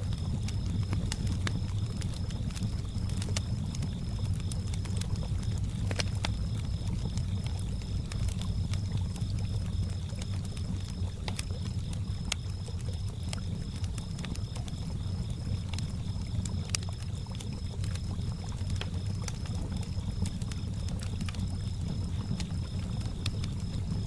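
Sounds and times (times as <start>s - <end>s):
campfire crackling and popping: 0.0s - 24.0s
crickets chirping: 0.0s - 24.0s.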